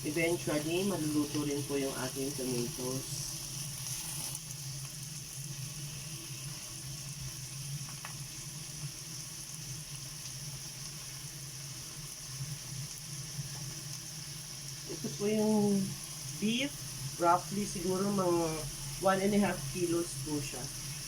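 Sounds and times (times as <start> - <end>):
kitchen exhaust fan hum: 0.0 - 21.0
tomatoes sizzling in hot oil: 0.0 - 21.0.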